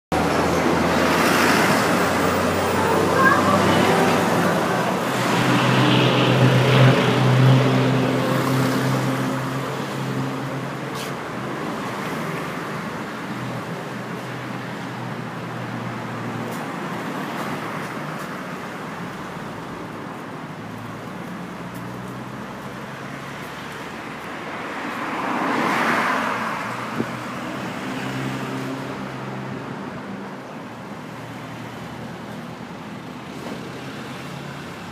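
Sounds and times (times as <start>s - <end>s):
road traffic noise: 0.1s - 34.9s.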